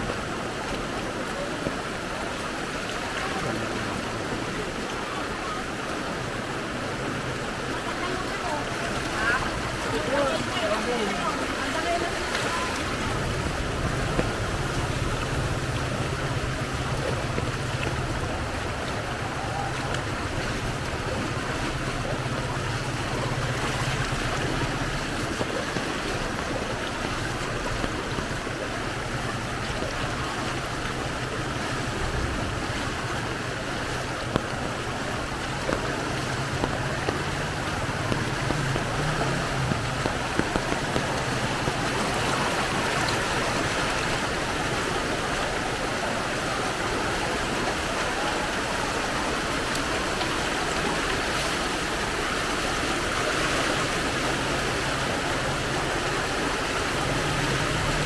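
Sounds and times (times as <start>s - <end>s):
floodwater rushing: 0.0s - 58.0s
low engine hum: 0.0s - 58.0s.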